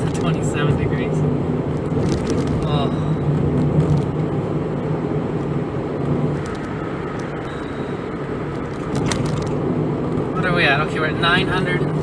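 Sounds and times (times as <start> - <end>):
car engine hum and road noise: 0.0 - 12.0.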